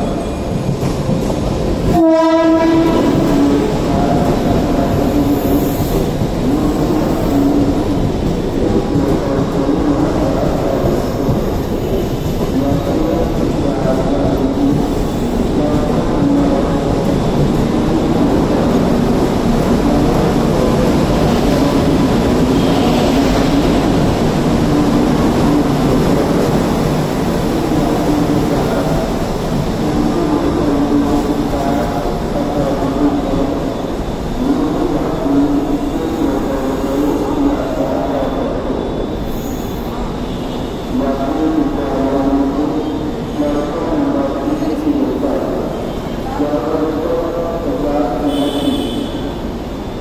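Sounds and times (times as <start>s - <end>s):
electric train rumbling past: 0.0s - 50.0s
low train hum: 0.0s - 50.0s.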